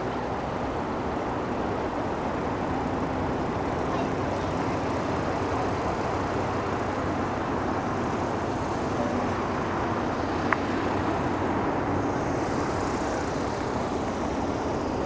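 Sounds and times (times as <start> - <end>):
jet engines rumbling: 0.0 - 15.0
thin jet whine: 0.9 - 15.0.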